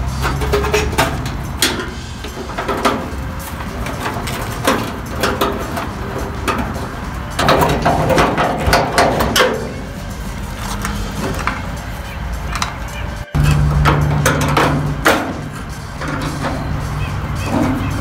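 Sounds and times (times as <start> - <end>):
sheet metal clanking and scraping: 0.0 - 18.0.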